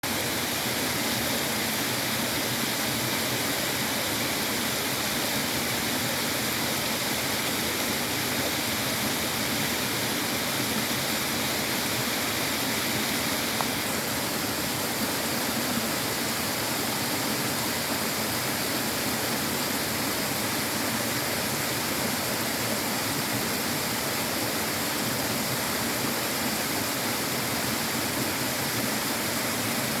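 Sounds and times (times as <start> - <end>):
running water flowing: 0.0 - 30.0.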